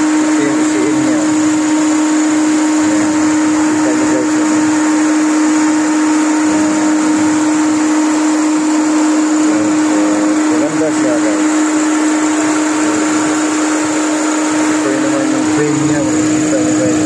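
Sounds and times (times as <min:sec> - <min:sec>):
radiator cooling fan whirring: 0:00.0 - 0:17.0.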